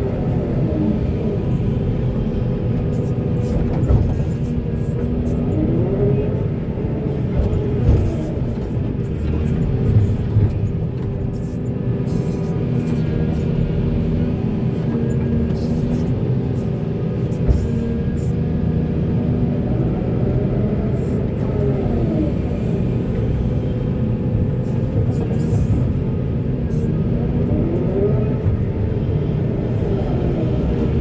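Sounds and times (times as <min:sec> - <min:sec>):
diesel engine running under load: 0:00.0 - 0:31.0
hydraulics whining: 0:00.0 - 0:31.0.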